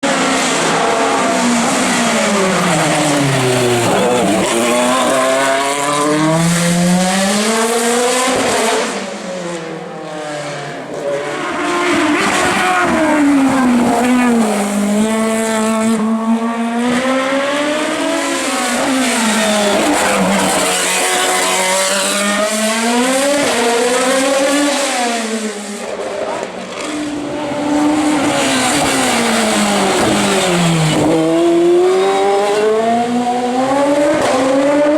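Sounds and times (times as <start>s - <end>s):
race car engine revving hard: 0.0s - 34.9s.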